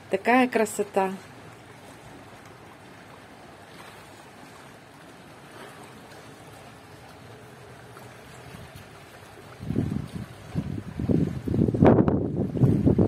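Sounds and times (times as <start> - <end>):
sea water lapping against stone: 0.0 - 13.0
wind: 0.0 - 13.0.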